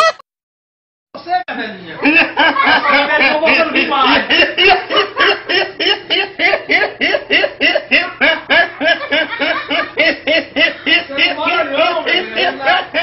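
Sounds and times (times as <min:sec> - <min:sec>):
boy laughing hard: 0:02.0 - 0:13.0.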